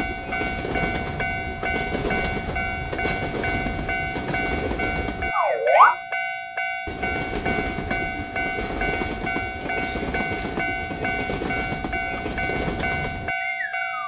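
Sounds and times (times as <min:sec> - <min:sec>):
level-crossing warning bell: 0:00.0 - 0:14.0.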